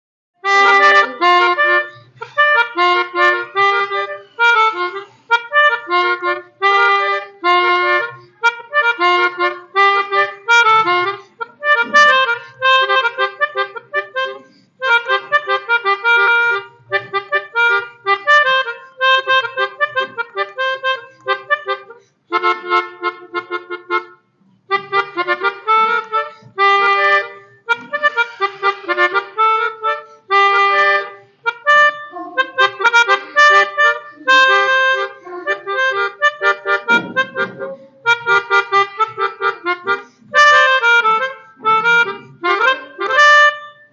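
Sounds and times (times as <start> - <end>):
melodica playing reedy notes: 0.4 - 43.9.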